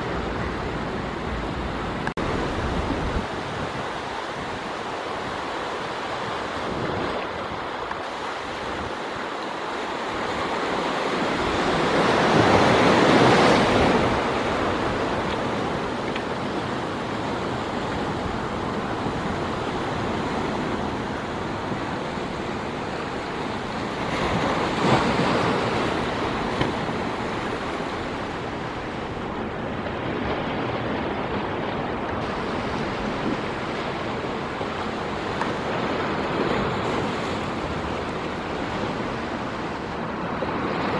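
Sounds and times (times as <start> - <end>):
waves washing over rocky shore: 0.0 - 40.9.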